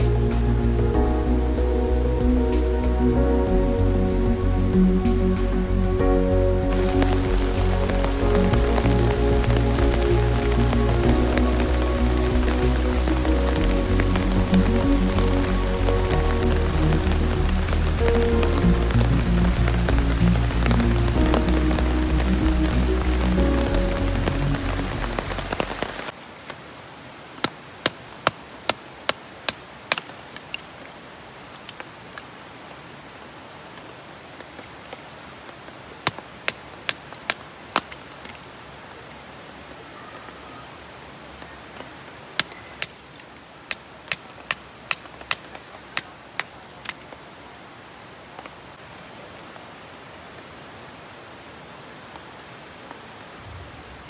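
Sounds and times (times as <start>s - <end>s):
stream hissing: 0.0s - 54.0s.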